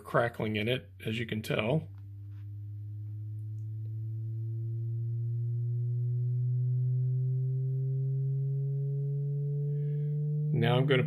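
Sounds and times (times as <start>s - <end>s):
sine wave tone rising in pitch: 1.5s - 11.0s.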